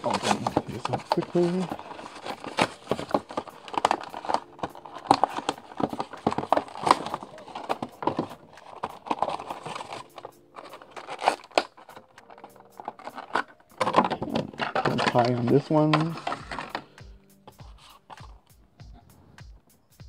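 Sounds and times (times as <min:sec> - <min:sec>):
cardboard rubbing: 0:00.0 - 0:16.9, 0:17.5 - 0:18.5
stiff plastic crinkling: 0:00.0 - 0:18.5.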